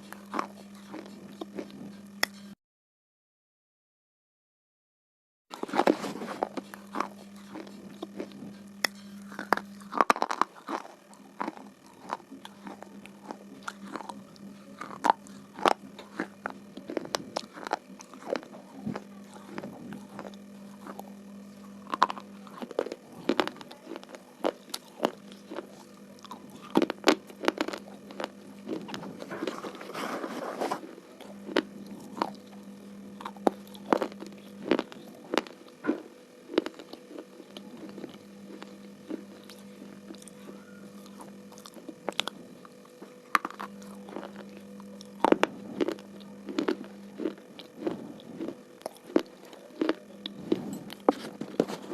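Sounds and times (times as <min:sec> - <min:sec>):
low steady hum: 0:00.0 - 0:02.6, 0:05.5 - 0:51.9
pencils crunching when chewed: 0:00.0 - 0:02.6, 0:05.5 - 0:51.9.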